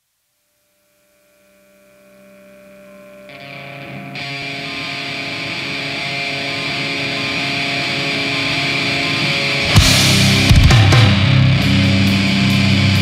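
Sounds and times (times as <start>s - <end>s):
distorted electric guitar: 1.6s - 13.0s.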